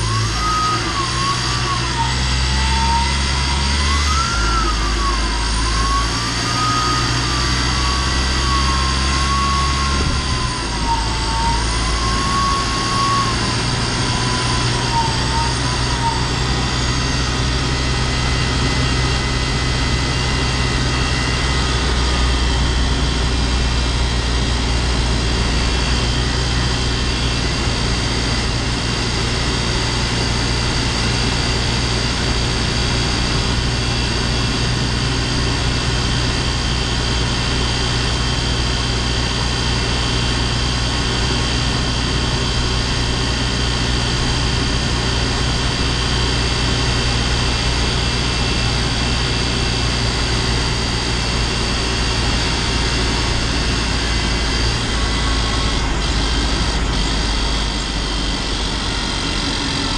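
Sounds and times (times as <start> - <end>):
high-pitched turbo whistle: 0.0 - 59.9
road noise: 0.0 - 59.9
van engine running: 0.0 - 59.9.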